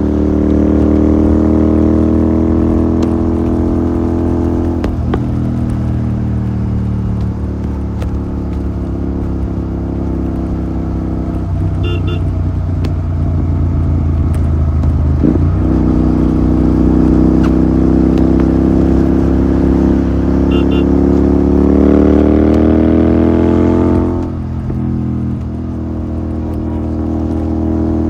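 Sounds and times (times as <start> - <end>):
motorcycle engine while riding: 0.0 - 28.0.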